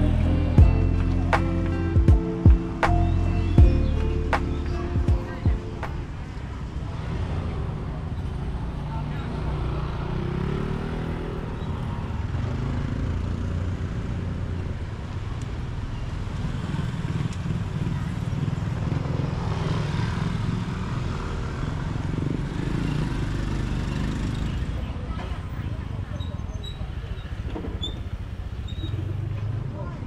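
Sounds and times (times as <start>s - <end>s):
street traffic noise: 0.0s - 30.0s.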